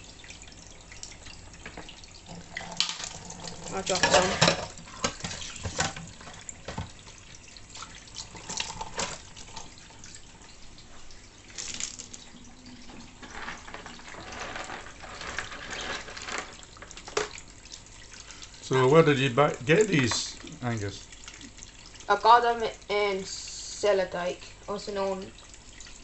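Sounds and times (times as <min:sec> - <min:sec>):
tap water running: 0:00.0 - 0:26.0.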